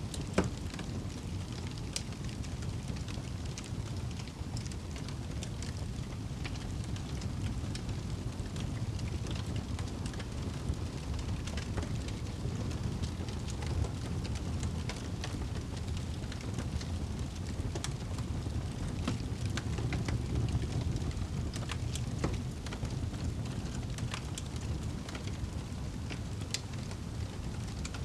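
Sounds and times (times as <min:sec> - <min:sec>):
campfire crackling: 0:00.0 - 0:28.0
fire low rumble: 0:00.0 - 0:28.0.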